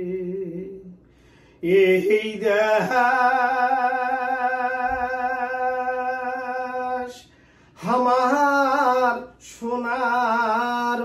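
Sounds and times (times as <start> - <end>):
man singing unaccompanied: 0.0 - 1.0, 1.6 - 11.0.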